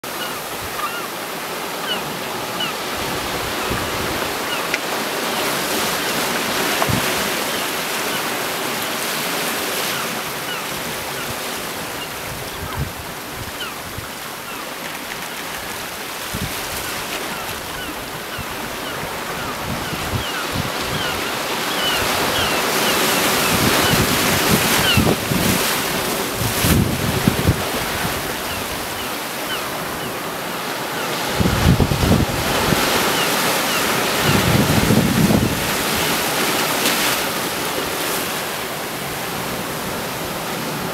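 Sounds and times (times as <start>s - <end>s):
waves breaking on rocky shore: 0.1s - 40.9s.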